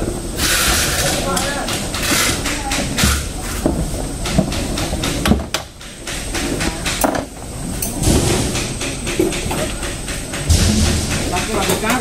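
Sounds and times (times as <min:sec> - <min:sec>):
steady background noise: 0:00.0 - 0:12.0
handling knocks and clanks: 0:00.8 - 0:12.0.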